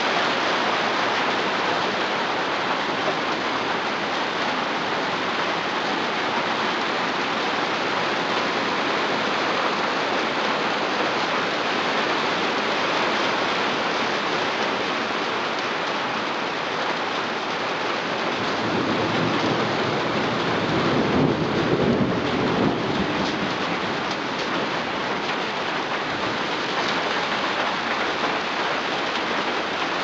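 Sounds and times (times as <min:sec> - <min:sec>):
heavy rain on a tin roof: 0:00.0 - 0:30.0.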